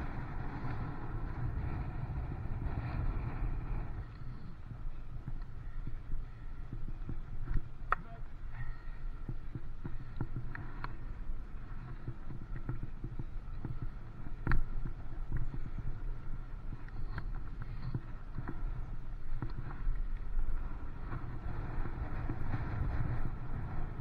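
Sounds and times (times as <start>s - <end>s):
bicycle tyres rumbling on tarmac: 0.0s - 24.0s
wind: 0.0s - 24.0s.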